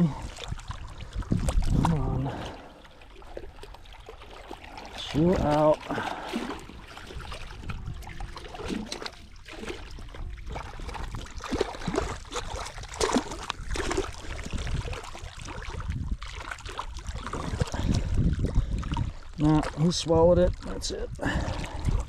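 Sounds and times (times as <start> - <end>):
fish splashing in shallow water: 0.0 - 22.0.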